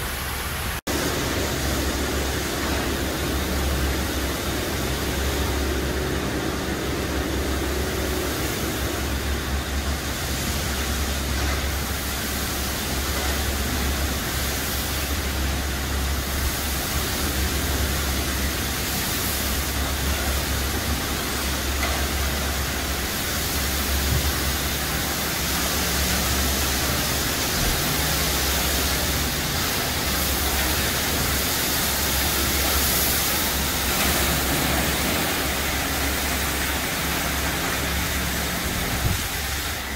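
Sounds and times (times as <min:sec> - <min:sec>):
low machinery hum: 0:00.0 - 0:39.9
water spray hissing on truck: 0:00.0 - 0:39.9.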